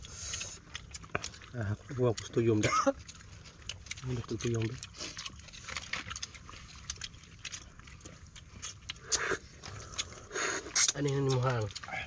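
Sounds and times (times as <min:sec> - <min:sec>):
chewing and lip smacks: 0:00.0 - 0:12.0
slurping: 0:00.0 - 0:12.0.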